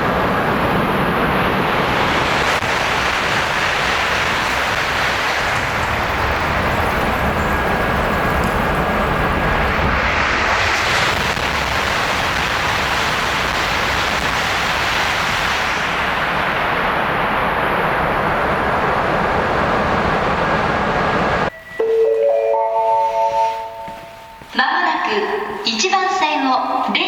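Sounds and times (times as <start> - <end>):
high-speed train roaring past: 0.0 - 27.0.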